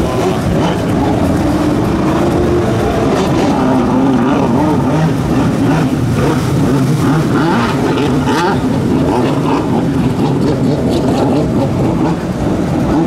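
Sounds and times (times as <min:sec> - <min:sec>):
jet ski engines running: 0:00.0 - 0:13.0.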